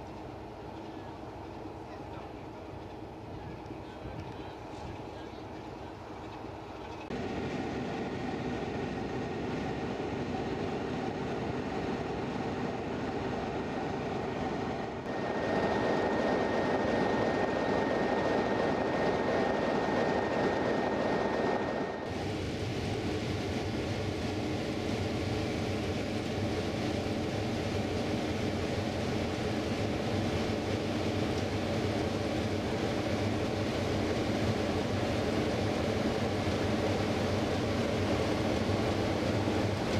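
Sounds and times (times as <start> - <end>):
steady high whine: 2.2 - 39.9.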